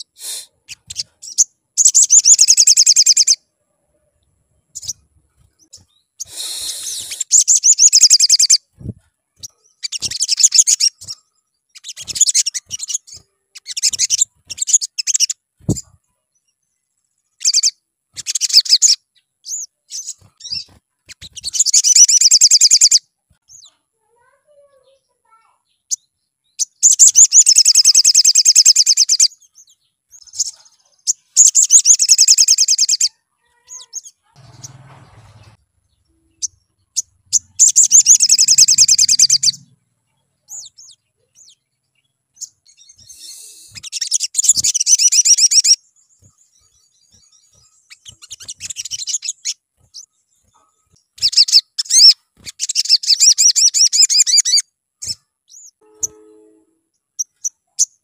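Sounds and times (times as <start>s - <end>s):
bird twittering trills: 0.0s - 3.4s, 4.5s - 24.4s, 25.3s - 58.0s.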